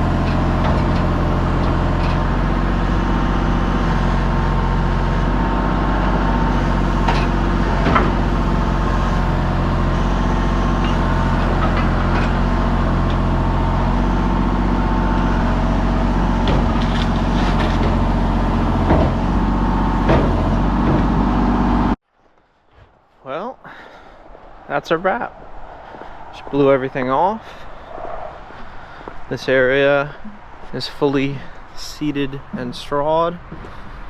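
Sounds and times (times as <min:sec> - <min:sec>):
engine running steadily: 0:00.0 - 0:22.0, 0:26.9 - 0:34.0.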